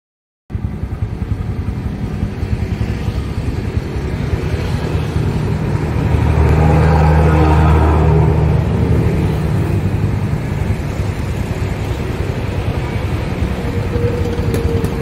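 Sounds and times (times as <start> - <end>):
motorcycle engine running: 0.5 - 15.0.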